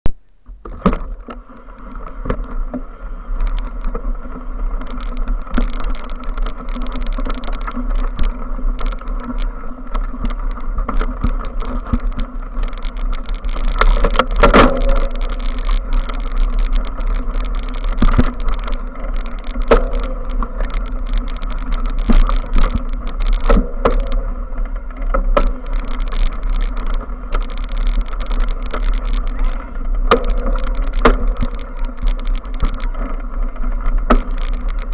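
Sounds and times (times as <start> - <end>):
wind rumbling on microphone: 0.4 - 34.9
bike rattling and knocking: 0.6 - 34.9.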